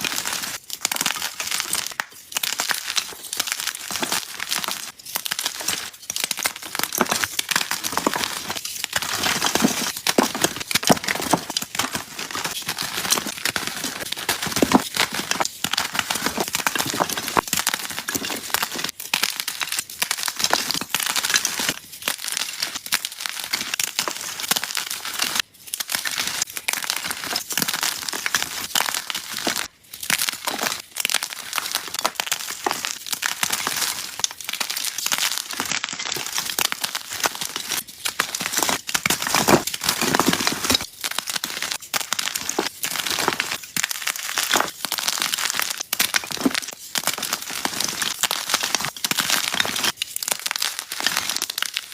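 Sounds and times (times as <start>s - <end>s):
chalk crushing and crunching: 0.0s - 51.9s.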